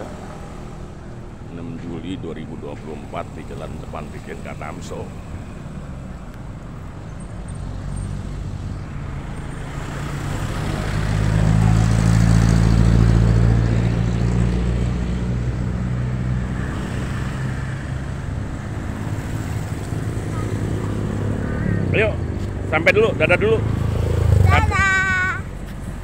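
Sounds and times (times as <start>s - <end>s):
vehicle passing close: 0.0s - 6.2s, 7.3s - 26.0s
traffic background: 0.0s - 26.0s.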